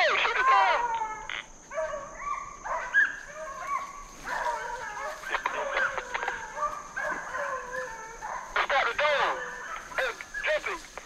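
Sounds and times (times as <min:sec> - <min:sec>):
hounds baying: 0:00.0 - 0:11.0.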